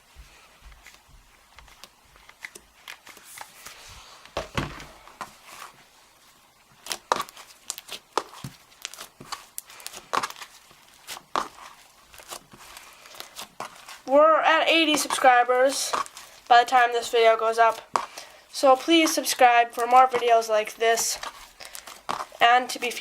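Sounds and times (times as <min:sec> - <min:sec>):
slime crackling and squishing: 0:04.5 - 0:23.0.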